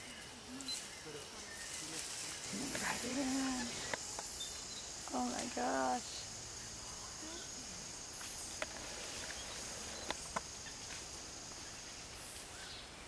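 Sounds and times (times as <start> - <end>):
high-pitched insect drone: 0.0 - 12.6.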